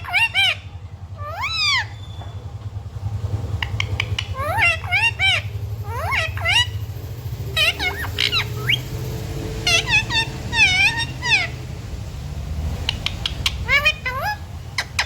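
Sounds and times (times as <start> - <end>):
parrot calling: 0.0 - 15.0
steady low hum: 0.0 - 15.0.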